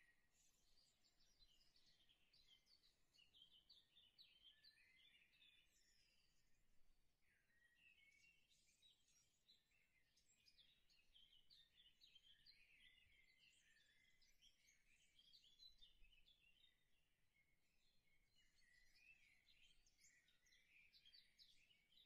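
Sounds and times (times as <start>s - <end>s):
small birds twittering: 0.3s - 6.4s, 7.3s - 16.8s, 17.8s - 22.0s.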